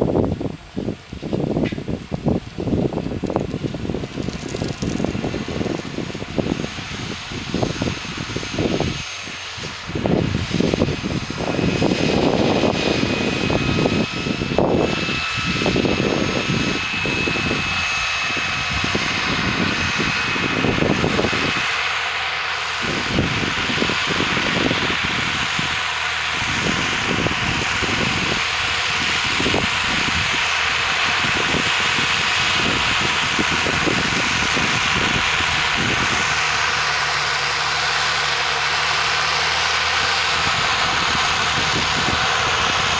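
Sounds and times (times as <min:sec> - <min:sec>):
low rumble: 0:00.0 - 0:42.9
milling machine whine: 0:00.0 - 0:42.9.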